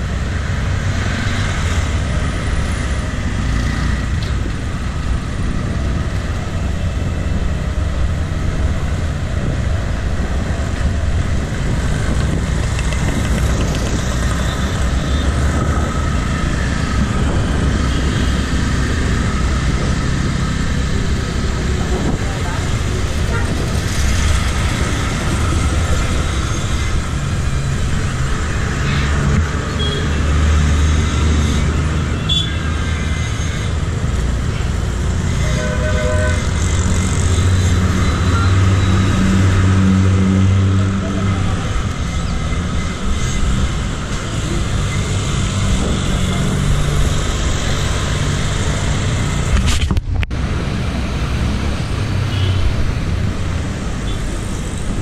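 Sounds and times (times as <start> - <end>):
passing vehicle engines rumbling: 0.0 - 55.0.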